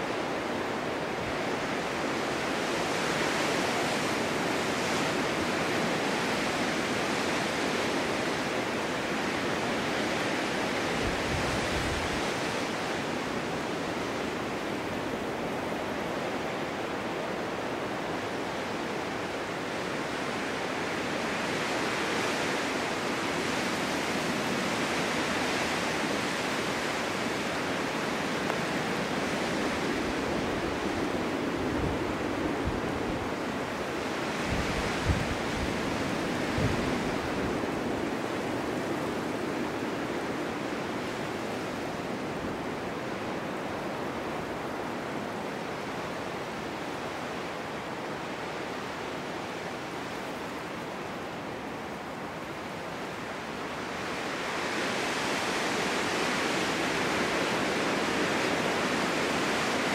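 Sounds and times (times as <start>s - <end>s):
wind rushing through forest: 0.0s - 59.9s.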